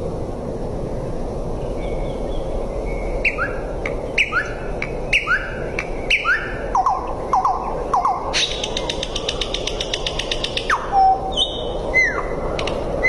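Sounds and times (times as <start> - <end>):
steady background hiss: 0.0 - 13.0
bird calling: 1.8 - 13.0.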